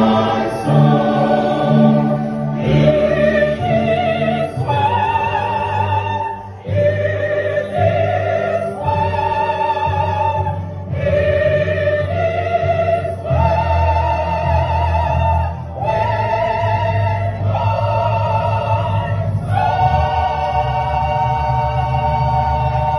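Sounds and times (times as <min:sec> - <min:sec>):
choir singing a hymn: 0:00.0 - 0:22.9.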